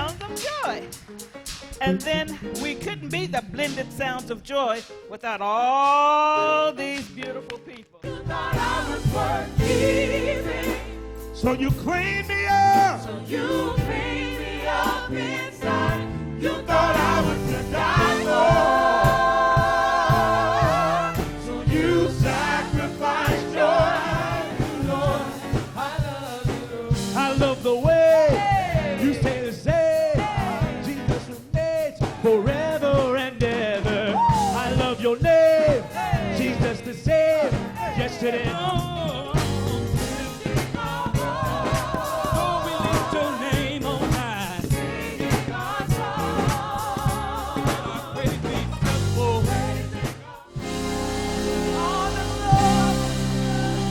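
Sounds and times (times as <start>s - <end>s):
backing music: 0.0s - 53.9s
vocal group singing in harmony: 8.0s - 53.9s.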